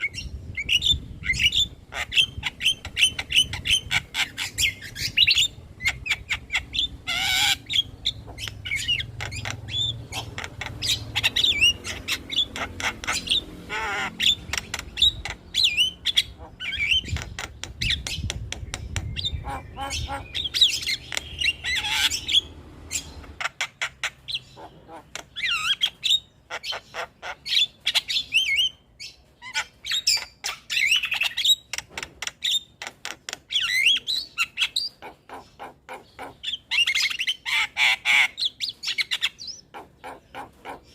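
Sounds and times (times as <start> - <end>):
birds squawking and whistling: 0.0 - 40.9.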